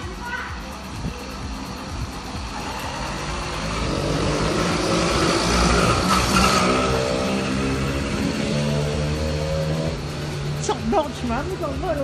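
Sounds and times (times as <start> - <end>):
steady engine tone: 0.0 - 12.0
vehicle passing on road: 0.0 - 12.0.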